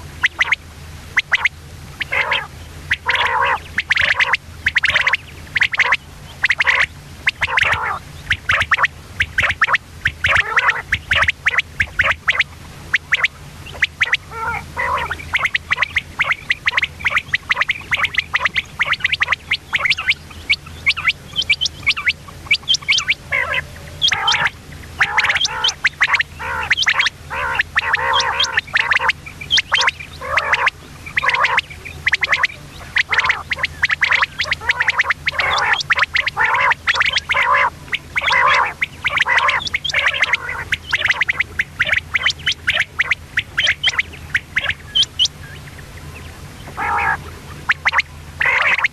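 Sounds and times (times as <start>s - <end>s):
faint low hum: 0.0s - 48.9s
quail calling: 0.0s - 48.9s.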